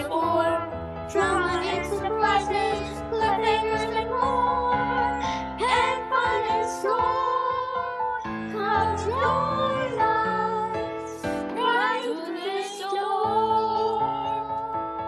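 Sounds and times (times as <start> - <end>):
musical backing track: 0.0 - 15.0.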